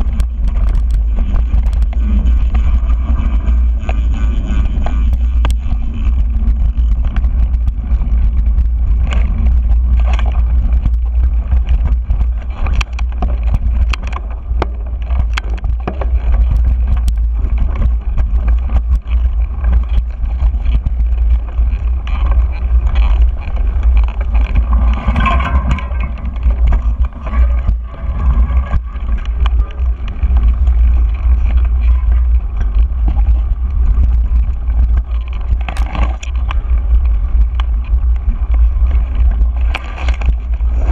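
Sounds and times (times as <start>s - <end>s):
bike clicks and rattles: 0.0s - 40.9s
wind rumbling on microphone: 0.0s - 40.9s.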